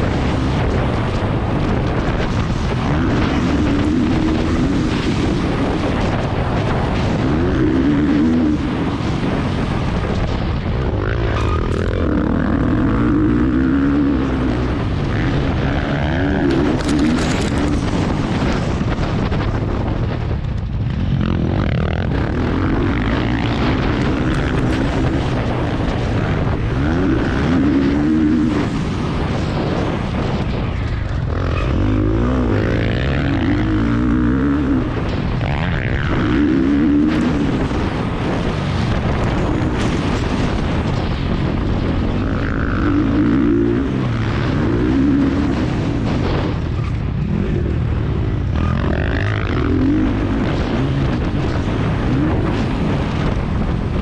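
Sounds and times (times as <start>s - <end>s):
motocross bike engine revving: 0.0s - 19.5s, 20.9s - 30.4s, 31.0s - 54.0s.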